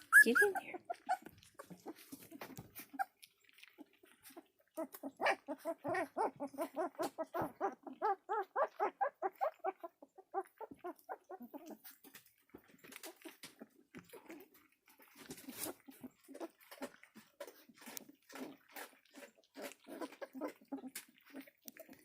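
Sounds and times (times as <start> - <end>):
puppies lapping food: 0.0 - 22.0
puppy whining and whimpering: 0.0 - 22.0.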